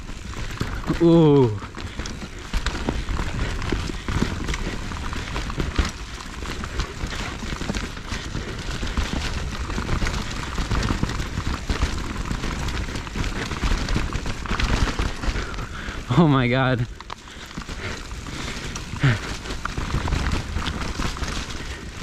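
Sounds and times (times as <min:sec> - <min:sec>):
tyres rolling over dirt: 0:00.0 - 0:22.0
bike clattering: 0:00.1 - 0:22.0.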